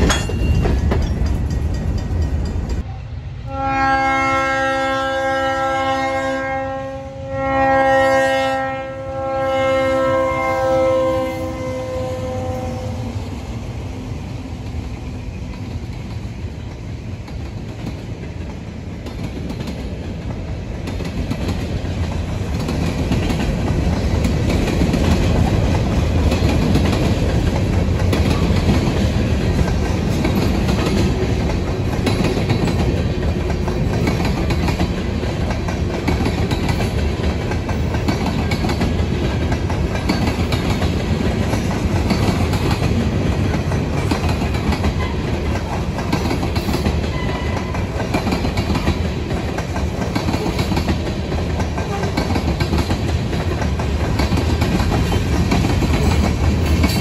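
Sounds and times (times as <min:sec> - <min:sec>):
freight train wheels clacking: 0:00.0 - 0:02.9, 0:13.8 - 0:57.0.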